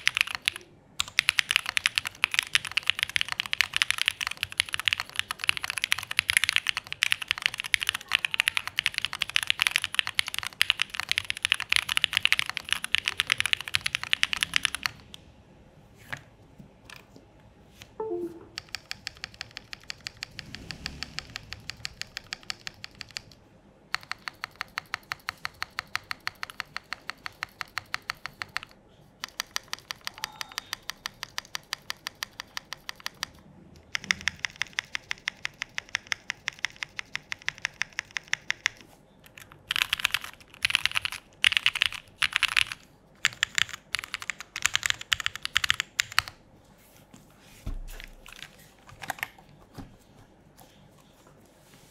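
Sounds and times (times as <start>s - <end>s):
mechanical keyboard typing: 0.0s - 15.2s, 18.6s - 46.4s, 48.2s - 49.4s.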